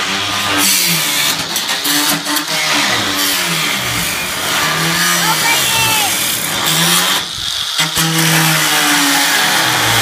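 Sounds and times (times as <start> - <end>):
power tool grinding metal: 0.0 - 10.0.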